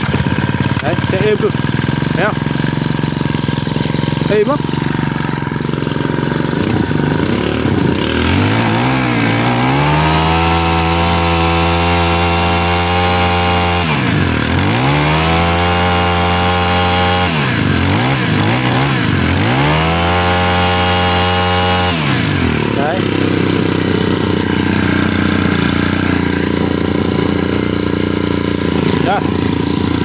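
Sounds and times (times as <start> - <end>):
brush cutter engine revving: 0.0 - 30.0.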